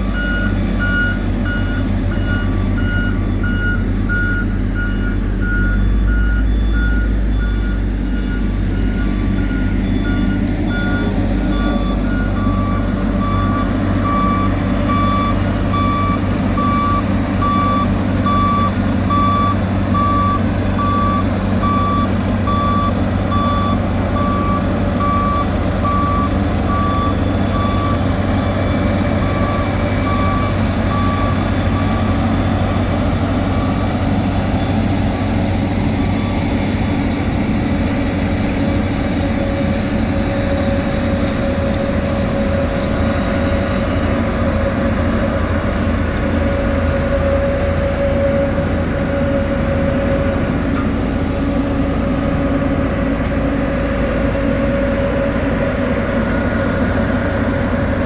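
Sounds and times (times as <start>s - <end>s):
reversing alarms beeping: 0.0s - 56.5s
diesel engine running: 0.0s - 58.0s.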